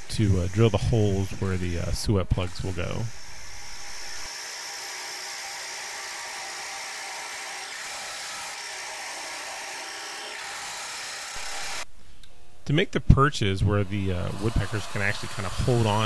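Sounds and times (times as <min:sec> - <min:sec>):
drill press boring into wood: 0:00.0 - 0:11.8, 0:14.2 - 0:16.0.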